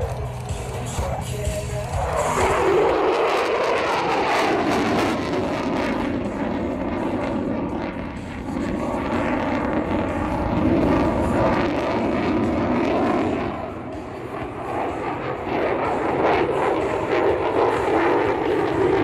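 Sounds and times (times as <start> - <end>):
fighter jet engine roaring: 0.0 - 19.0.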